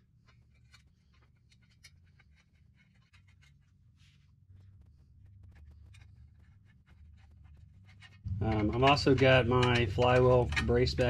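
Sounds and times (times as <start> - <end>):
metal engine parts handled: 0.0 - 4.0, 5.8 - 11.0
low steady hum: 0.0 - 11.0.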